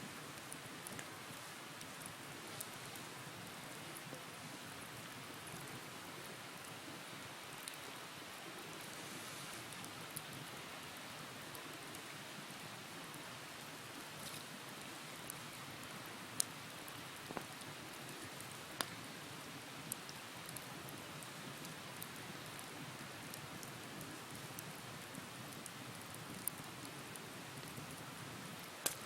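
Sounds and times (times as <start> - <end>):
bonfire hissing: 0.0 - 29.0
fire popping and crackling: 0.1 - 6.8, 7.5 - 29.0.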